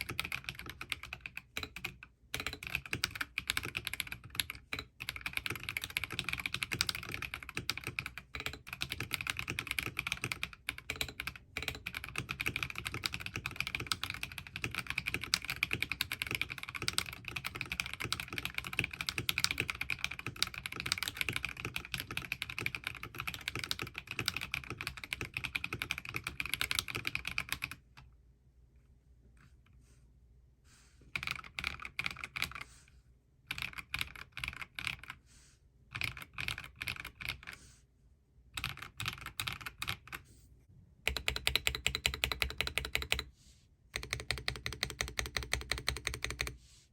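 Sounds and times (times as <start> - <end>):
fast mechanical keyboard typing: 0.0 - 27.8, 31.2 - 32.6, 33.5 - 35.2, 35.9 - 37.6, 38.6 - 40.2, 41.1 - 43.3, 44.0 - 46.6.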